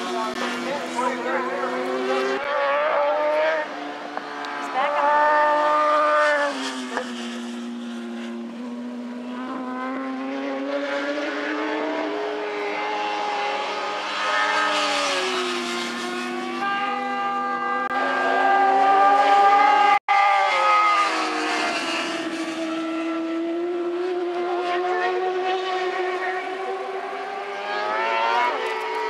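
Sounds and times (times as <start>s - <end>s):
racing motorcycle engines: 0.0s - 29.0s.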